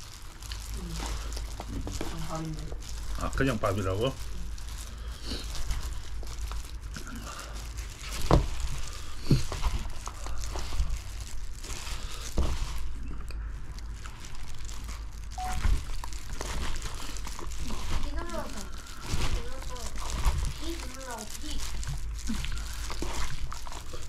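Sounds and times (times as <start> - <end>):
crinkly rustling: 0.0 - 24.0
person chewing: 0.0 - 24.0.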